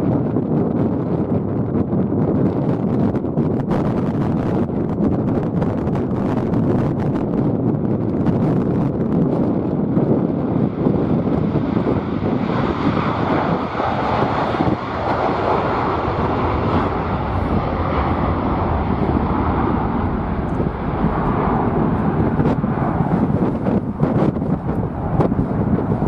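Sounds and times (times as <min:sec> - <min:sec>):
jet engines passing: 0:00.0 - 0:26.0
wind buffeting microphone: 0:00.0 - 0:26.0.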